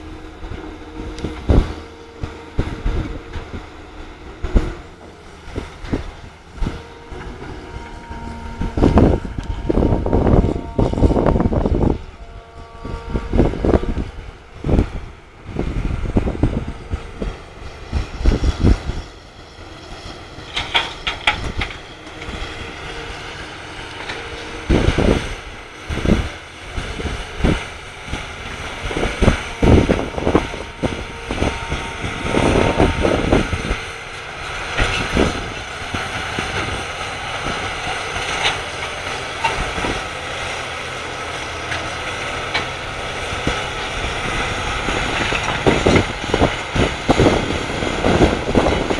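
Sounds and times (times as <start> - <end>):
heavy diesel machinery running: 0.0 - 48.9.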